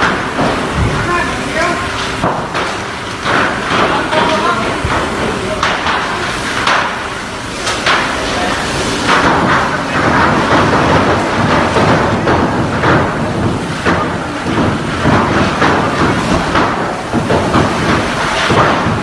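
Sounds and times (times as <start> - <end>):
fireworks popping and crackling: 0.0 - 19.0.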